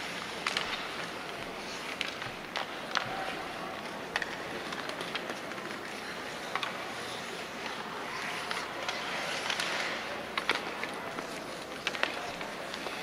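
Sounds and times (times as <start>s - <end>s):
hockey sticks clacking: 0.0s - 13.0s
skates scraping on ice: 0.0s - 13.0s.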